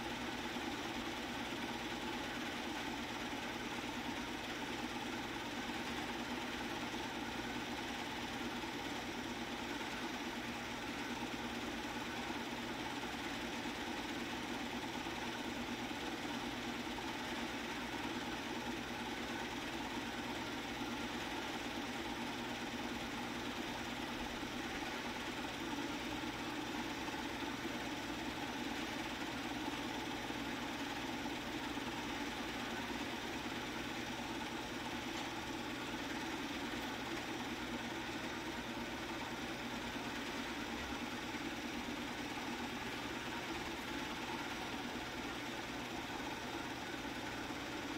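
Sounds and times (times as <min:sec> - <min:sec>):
film projector whirring: 0:00.0 - 0:47.9.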